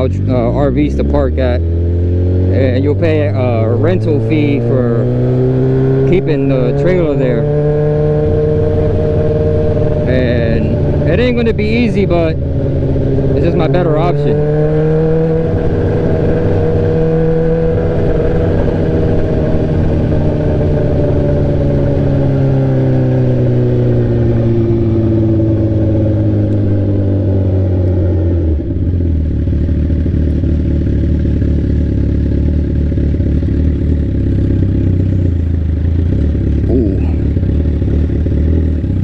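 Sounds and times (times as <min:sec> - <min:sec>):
sport bike engine running: 0:00.0 - 0:39.0.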